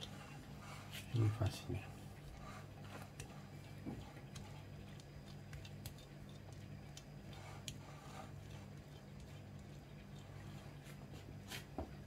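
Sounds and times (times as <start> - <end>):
spatula clicking and scraping: 0.0 - 1.2, 2.2 - 12.0
steady low hum: 0.0 - 12.0.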